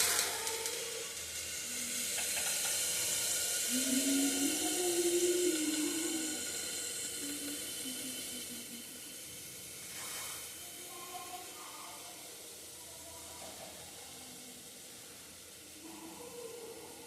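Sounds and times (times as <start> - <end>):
food hissing on stove: 0.0 - 17.0.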